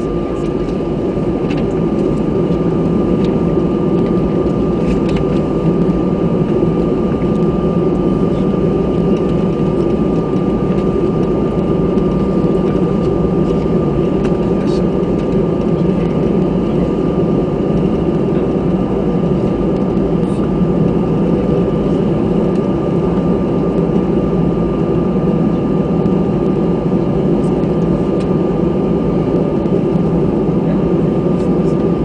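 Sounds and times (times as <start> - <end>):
jet engines rumbling in cabin: 0.0 - 32.0.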